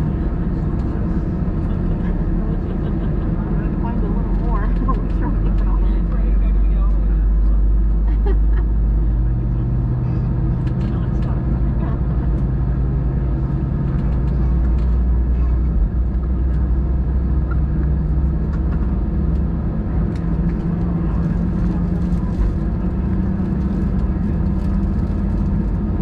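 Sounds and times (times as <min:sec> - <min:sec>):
airplane cabin rumble: 0:00.0 - 0:26.0
low hum rising in pitch: 0:00.0 - 0:26.0.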